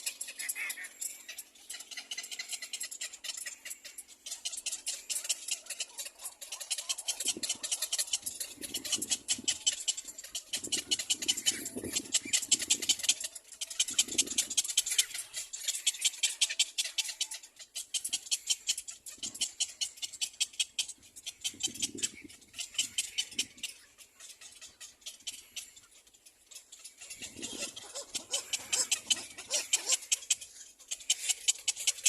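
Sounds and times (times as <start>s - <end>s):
cormorants ticking chatter: 0.0s - 32.0s.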